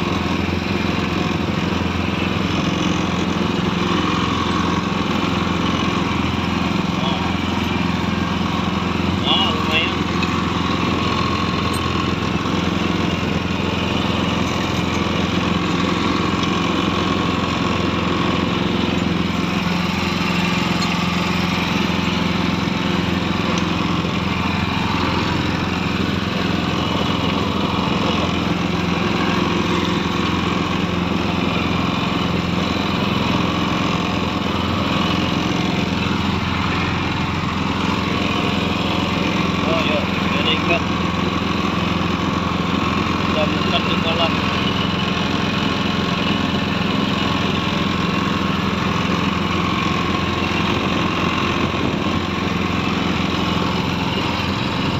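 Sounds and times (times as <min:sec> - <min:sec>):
small engine running: 0:00.0 - 0:54.9.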